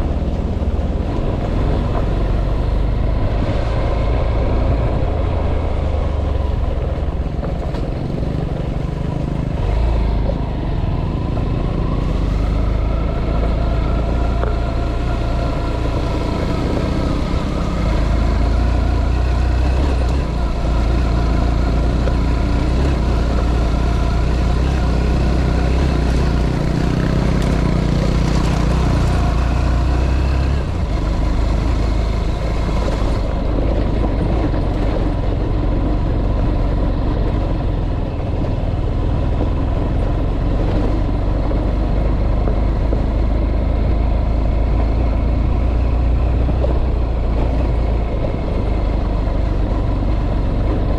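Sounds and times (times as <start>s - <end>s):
engine and road rumble: 0.0s - 50.9s.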